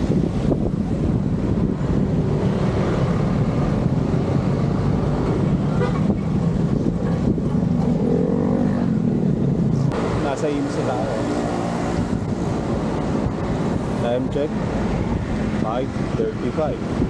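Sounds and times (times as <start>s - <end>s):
road traffic passing: 0.0s - 17.0s
wind rushing over microphone: 0.0s - 17.0s.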